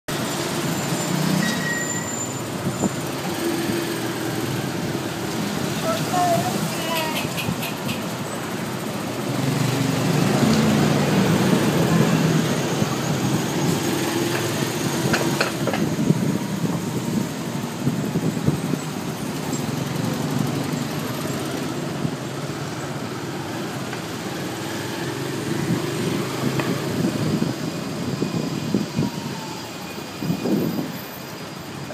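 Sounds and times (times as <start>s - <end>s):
street traffic: 0.1s - 31.9s.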